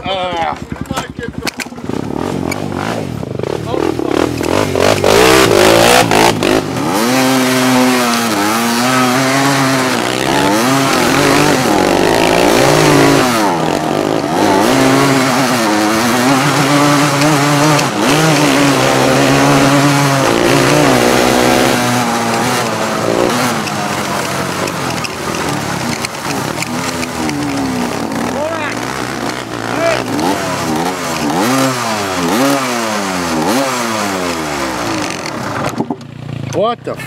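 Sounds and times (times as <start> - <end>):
atv engine revving: 0.0 - 37.0.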